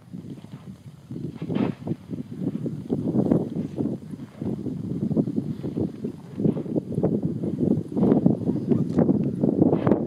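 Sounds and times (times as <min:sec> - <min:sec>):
volcano eruption rumbling crackle: 0:00.0 - 0:10.0.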